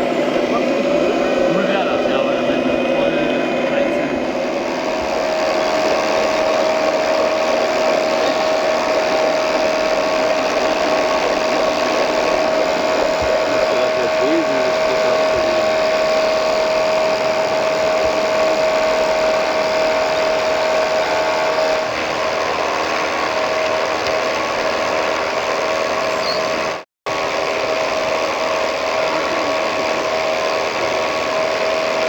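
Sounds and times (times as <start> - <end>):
small electric motors whining: 0.0 - 32.0.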